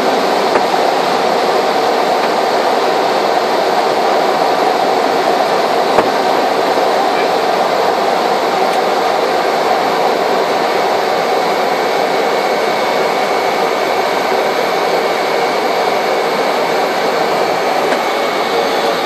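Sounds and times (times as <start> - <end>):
turboprop engine drone: 0.0 - 19.0.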